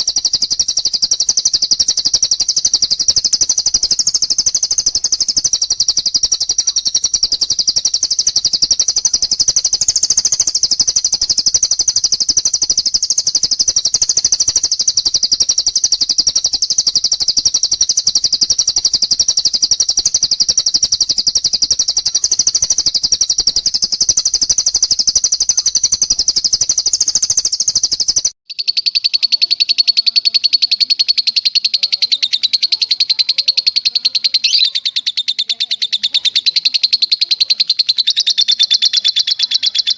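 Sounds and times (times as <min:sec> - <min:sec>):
recorded birdsong trills: 0:00.0 - 0:39.9.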